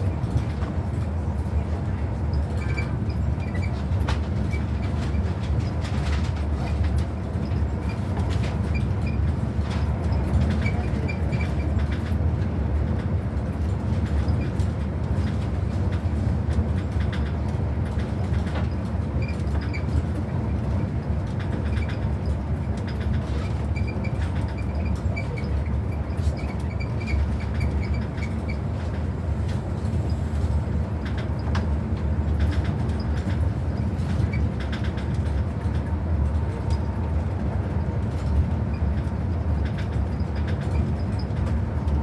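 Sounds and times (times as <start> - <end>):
rail clicks: 0.0 - 42.0
train running on rails: 0.0 - 42.0.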